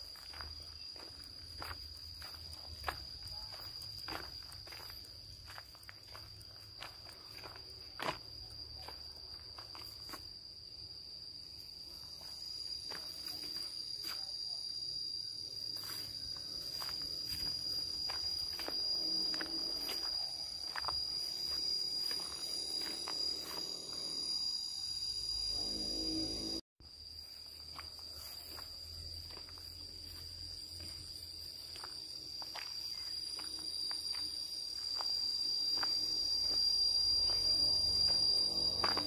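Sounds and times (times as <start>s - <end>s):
footsteps on dirt path: 0.0s - 10.4s, 12.1s - 14.4s, 15.6s - 25.2s, 27.4s - 39.0s
insects droning: 0.0s - 39.0s.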